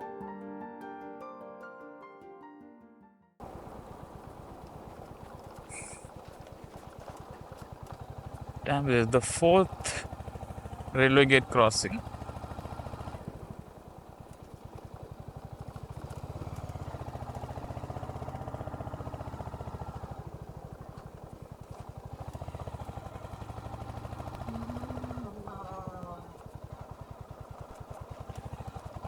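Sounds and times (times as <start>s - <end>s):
motorcycle engine running at low revs: 3.4s - 29.0s.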